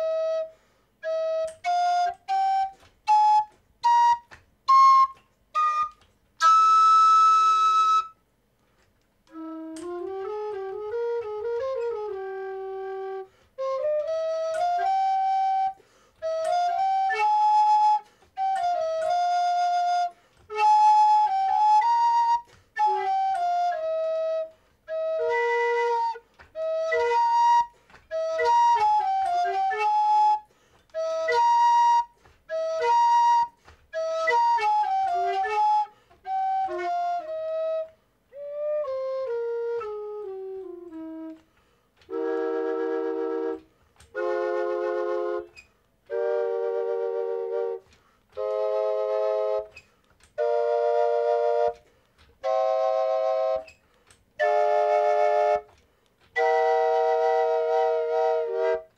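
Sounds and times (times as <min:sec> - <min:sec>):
whistle melodica playing: 0:00.0 - 0:08.2, 0:09.3 - 0:41.4, 0:42.0 - 0:58.9.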